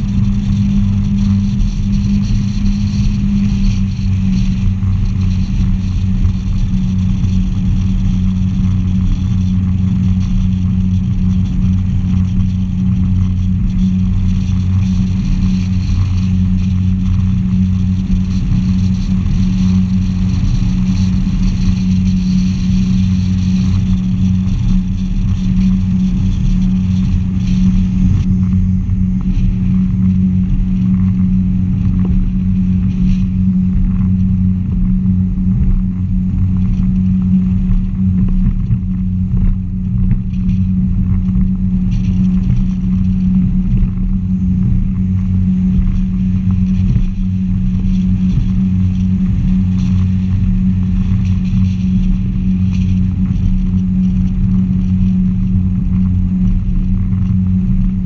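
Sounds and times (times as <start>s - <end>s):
boat engine hum: 0.0s - 58.0s.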